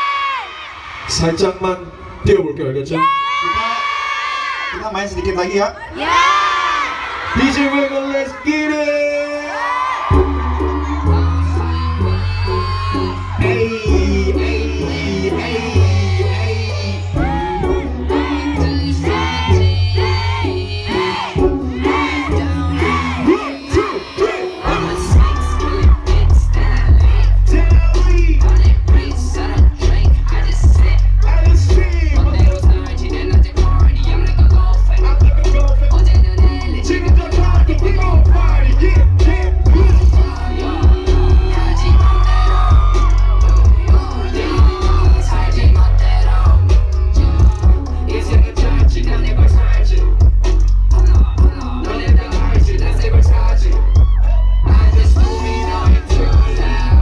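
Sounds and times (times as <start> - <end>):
crowd shouting along: 3.0 - 31.1, 36.6 - 57.0
hip-hop beat with heavy bass: 10.1 - 57.0.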